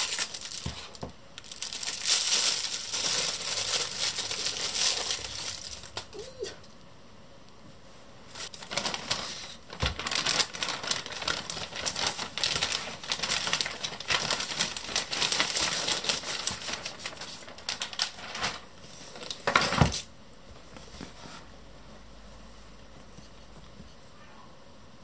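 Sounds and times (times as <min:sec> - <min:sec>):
plastic bag rustling: 0:00.0 - 0:06.3, 0:08.3 - 0:22.1.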